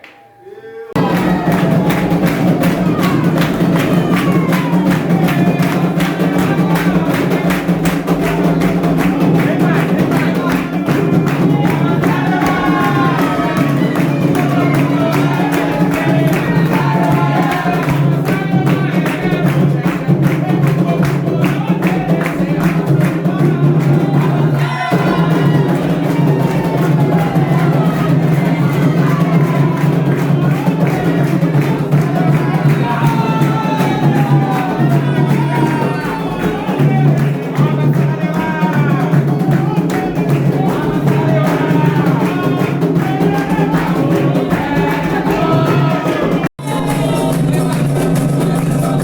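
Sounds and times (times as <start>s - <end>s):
voices singing: 0.0s - 49.0s
hand drums beating: 1.0s - 49.0s.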